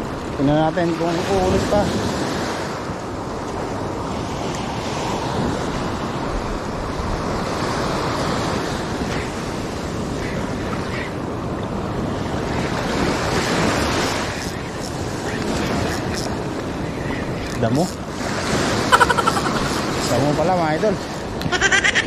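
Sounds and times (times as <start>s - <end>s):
ocean surf breaking: 0.0s - 22.0s
wind noise on microphone: 0.0s - 22.0s.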